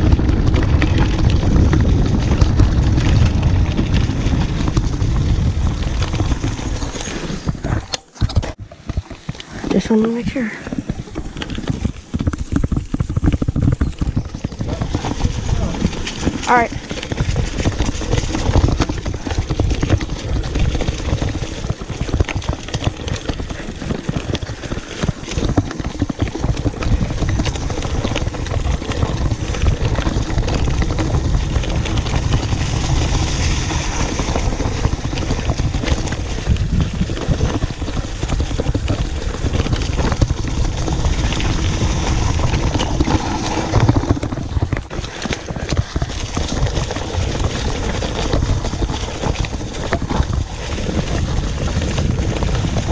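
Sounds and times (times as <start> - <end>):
wind on microphone: 0.0 - 9.8, 10.6 - 52.9
bike rattling over bumps: 0.0 - 52.9
bike tyres rumbling on dirt: 0.0 - 52.9.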